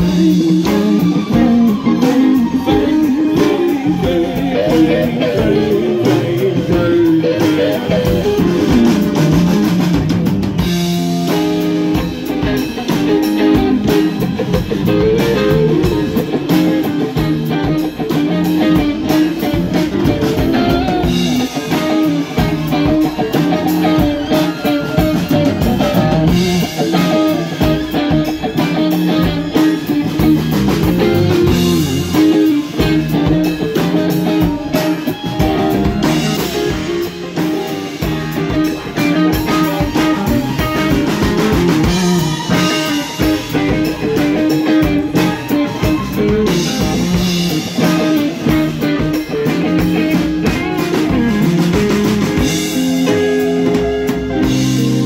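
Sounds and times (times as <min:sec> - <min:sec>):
bass: 0:00.0 - 0:55.0
drum kit: 0:00.0 - 0:55.0
electric guitars: 0:00.0 - 0:55.0.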